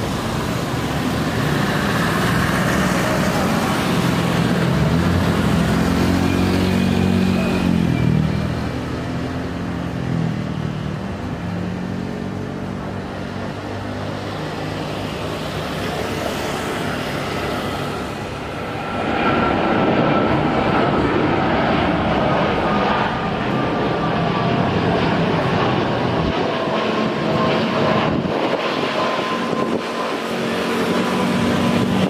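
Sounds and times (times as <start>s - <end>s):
jet engines roaring at takeoff: 0.0s - 32.0s.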